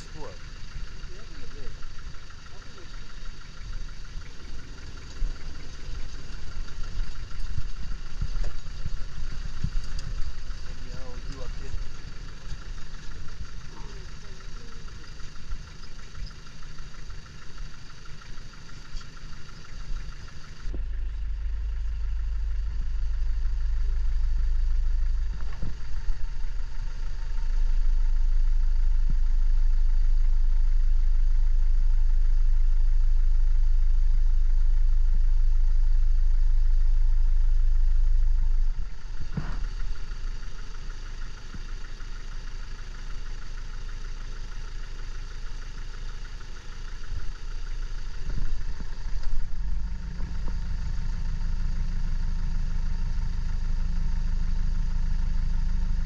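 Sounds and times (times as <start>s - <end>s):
deep low rumble: 0.0s - 56.0s
vehicle engine running: 0.0s - 56.0s.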